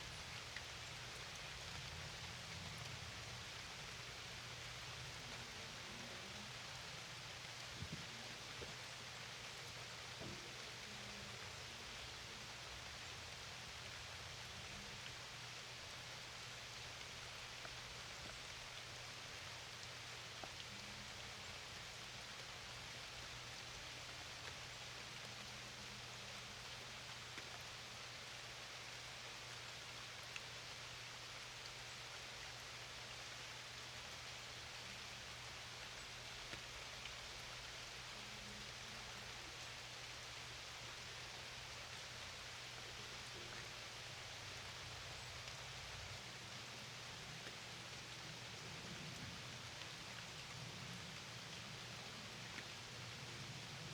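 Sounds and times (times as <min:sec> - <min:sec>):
rain falling on a lake: 0:00.0 - 0:53.9.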